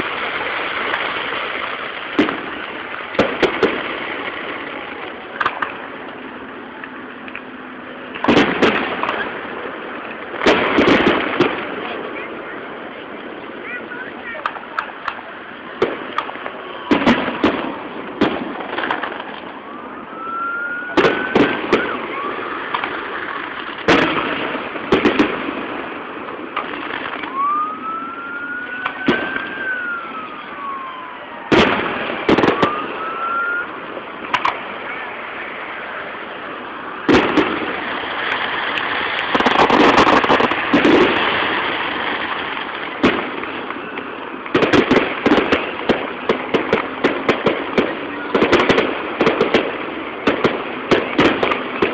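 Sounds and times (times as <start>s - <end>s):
fireworks bursting: 0.0s - 51.9s
fireworks whistling: 0.0s - 51.9s.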